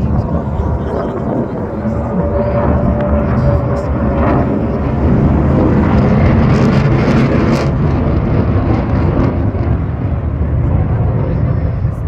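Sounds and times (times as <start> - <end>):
airplane engine rumble: 0.0 - 12.0.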